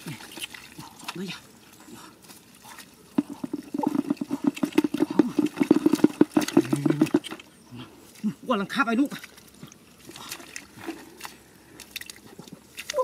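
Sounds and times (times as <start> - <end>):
basket sloshing through muddy water: 0.0 - 7.5, 9.0 - 13.0.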